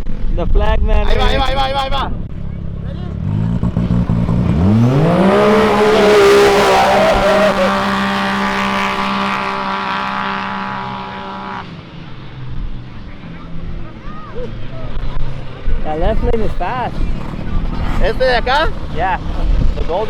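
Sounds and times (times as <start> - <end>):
racing engines revving: 2.2 - 20.0.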